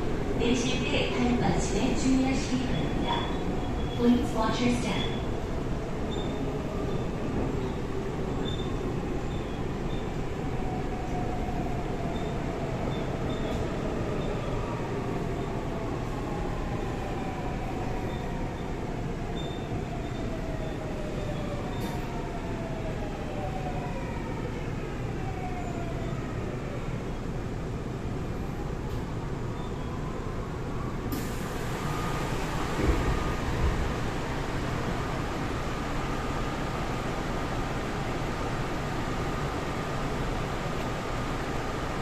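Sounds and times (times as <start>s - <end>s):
subway train motors whining: 0.0s - 42.0s.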